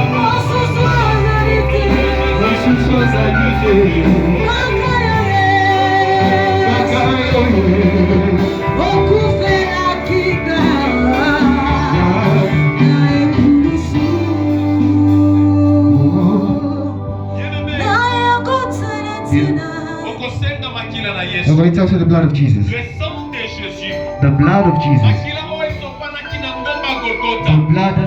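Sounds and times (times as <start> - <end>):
voices singing worship music: 0.0 - 28.0.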